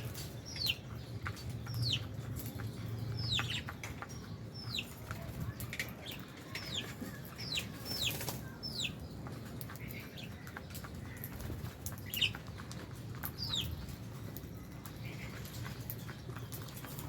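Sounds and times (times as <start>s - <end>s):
clicks and rustling of birds: 0.0s - 17.0s
lovebirds chirping: 0.0s - 17.0s.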